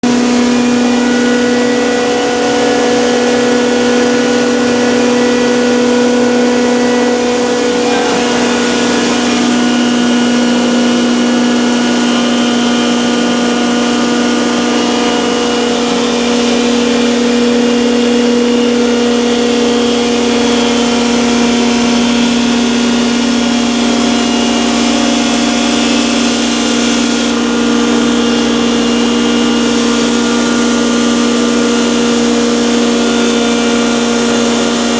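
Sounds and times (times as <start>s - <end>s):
spice grinder humming: 0.0s - 34.9s.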